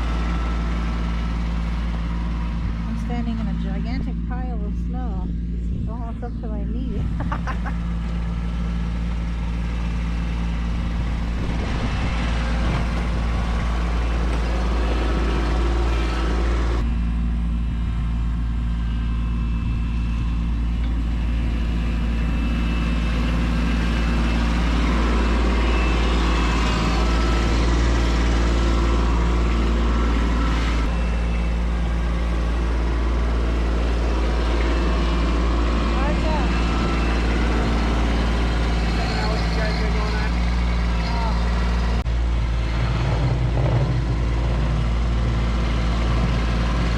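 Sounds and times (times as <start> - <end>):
tractor diesel engine droning: 0.0 - 46.9.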